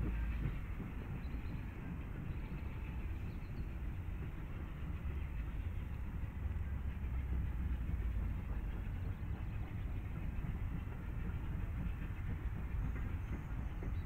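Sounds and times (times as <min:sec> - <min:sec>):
distant steam locomotive rumble: 0:00.0 - 0:14.0.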